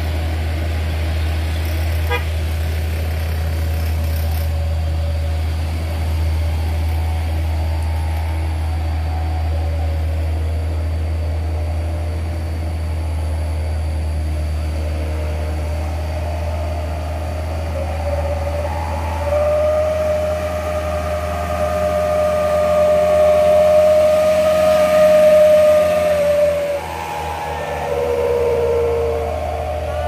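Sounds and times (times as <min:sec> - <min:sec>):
pickup engine drone: 0:00.0 - 0:30.0
steady high whine: 0:00.0 - 0:30.0.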